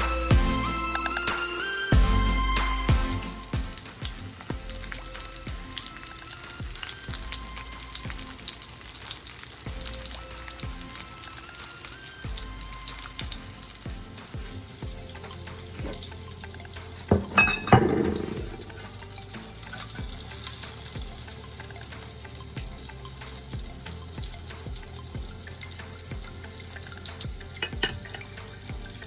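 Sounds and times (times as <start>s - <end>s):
soft background music: 0.0s - 29.0s
chicken frying in hot oil: 2.6s - 29.0s.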